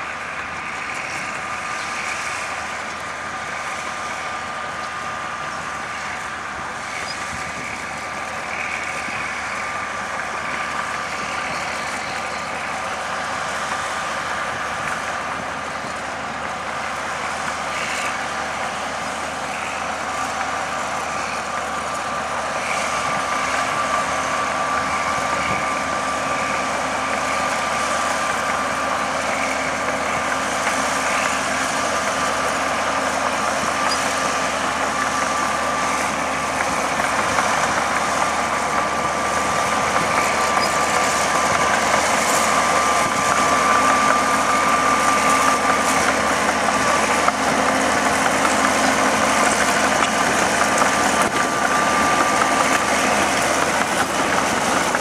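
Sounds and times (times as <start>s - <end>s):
steady high whine: 0.0s - 55.0s
tractor diesel engine under load: 0.0s - 55.0s.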